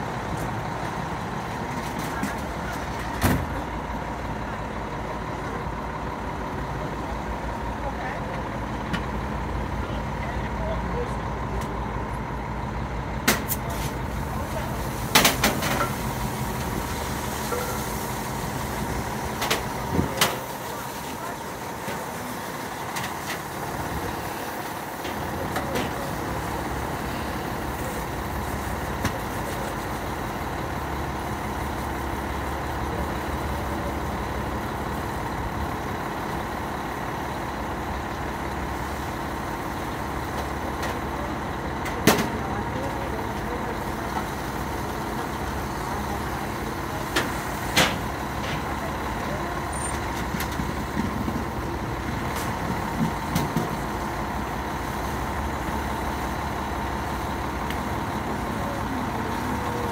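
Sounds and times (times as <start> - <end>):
fire engine diesel idling: 0.0 - 59.9.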